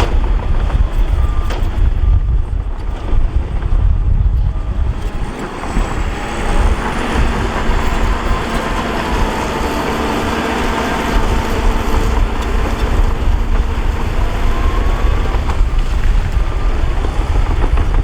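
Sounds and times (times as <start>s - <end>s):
deep diesel engine rumble: 0.0s - 18.0s
steady engine drone: 0.0s - 18.0s.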